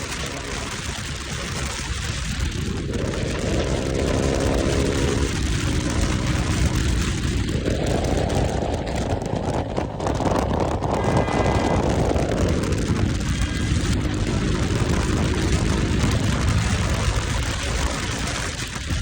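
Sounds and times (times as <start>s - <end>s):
low wind rumble: 0.0s - 19.0s
motorcycle engine riding along: 0.0s - 19.0s.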